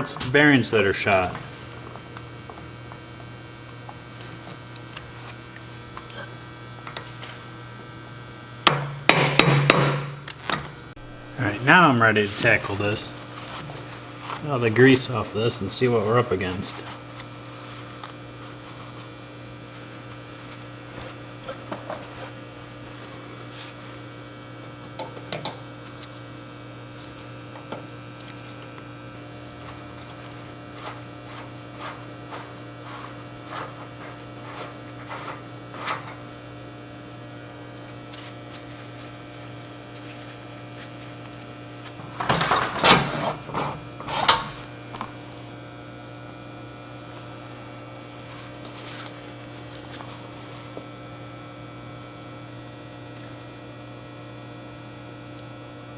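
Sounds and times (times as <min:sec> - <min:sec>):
electrical mains hum: 0:00.0 - 0:55.9.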